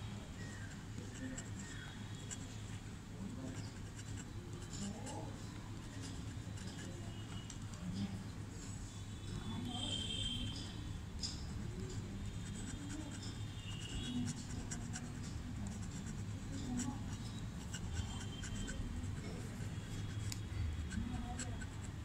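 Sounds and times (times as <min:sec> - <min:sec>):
pen nib scratching on paper: 0:00.4 - 0:07.9, 0:09.6 - 0:22.0.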